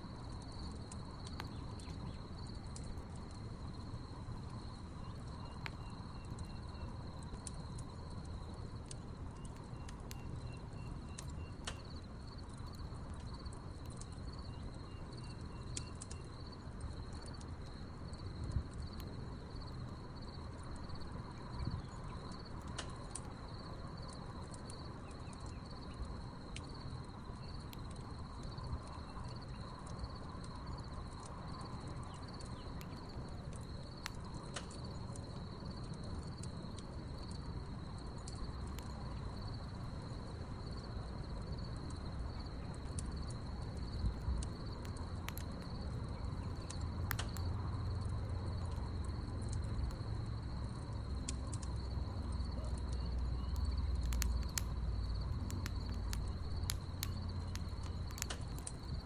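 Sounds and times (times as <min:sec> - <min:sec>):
campfire crackling: 0:00.0 - 0:59.0
crickets trilling: 0:00.0 - 0:59.0.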